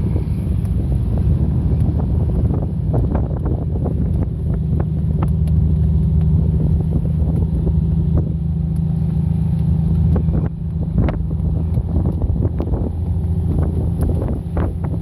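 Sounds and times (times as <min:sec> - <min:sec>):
boat engine droning: 0:00.0 - 0:15.0
wind on microphone: 0:00.0 - 0:15.0.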